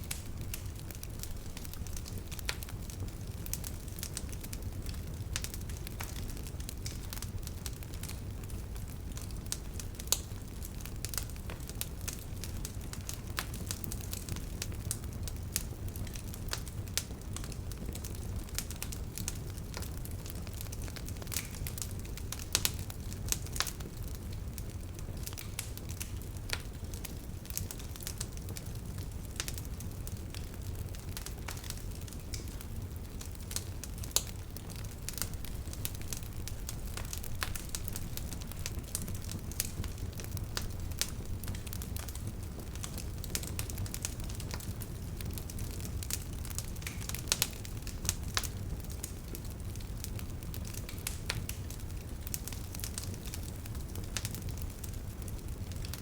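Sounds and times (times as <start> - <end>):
burning wood snapping and popping: 0.0 - 56.0
low rumble of flames: 0.0 - 56.0.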